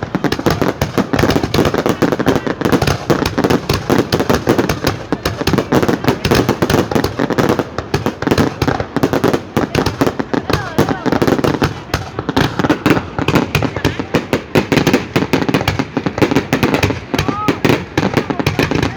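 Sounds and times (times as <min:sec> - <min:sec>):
fireworks bangs and pops: 0:00.0 - 0:18.9.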